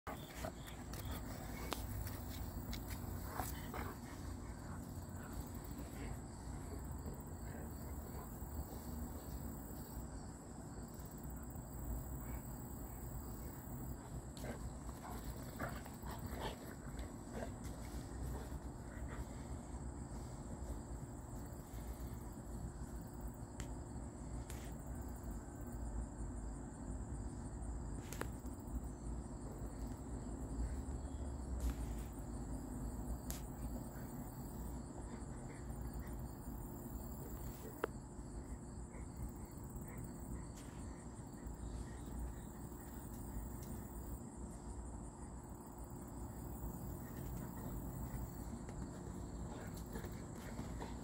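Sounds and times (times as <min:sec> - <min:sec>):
insects trilling: 0:00.1 - 0:51.0.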